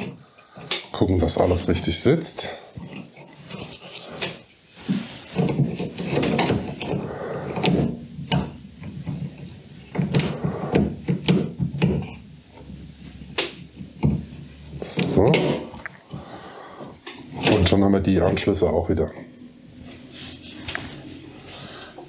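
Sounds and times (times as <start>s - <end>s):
hands and tool rustling and clattering: 0.0s - 22.0s.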